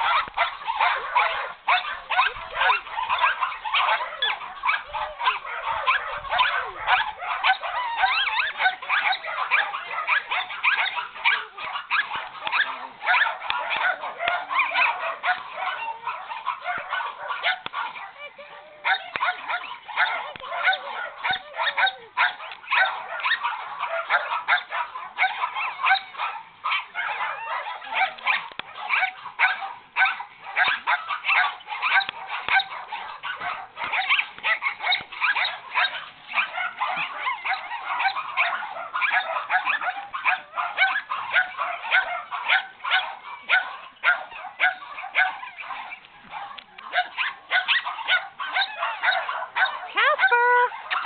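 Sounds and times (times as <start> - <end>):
puppy yapping: 0.0 - 51.0.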